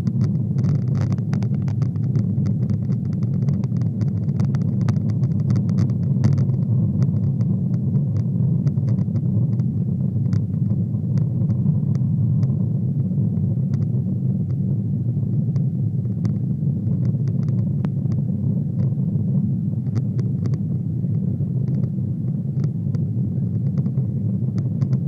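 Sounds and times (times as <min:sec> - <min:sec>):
faint clicks and rattles: 0:00.0 - 0:12.6, 0:13.3 - 0:14.6, 0:15.3 - 0:19.0, 0:19.8 - 0:25.0
jet engine low rumble: 0:00.0 - 0:25.0.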